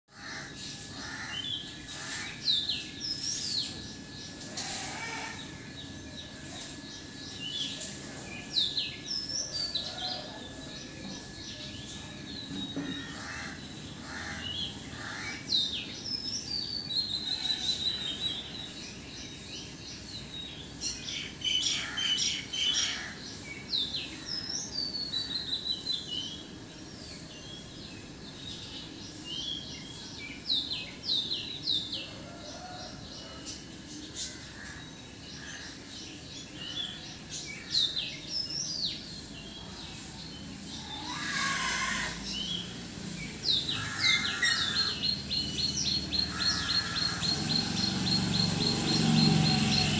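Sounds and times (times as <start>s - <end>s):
small birds chirping: 0.1s - 49.9s
high-pitched background hiss: 0.2s - 49.9s.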